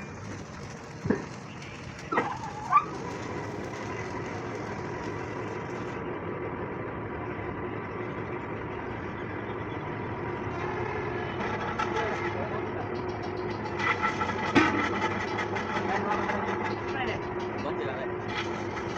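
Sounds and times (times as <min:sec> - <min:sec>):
machine humming: 0:00.0 - 0:15.7.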